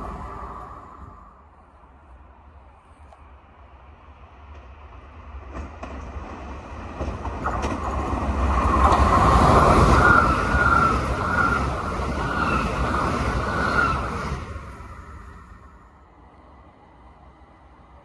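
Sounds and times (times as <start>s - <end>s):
train wheels rumbling on rail: 0.0s - 1.6s, 2.3s - 18.0s.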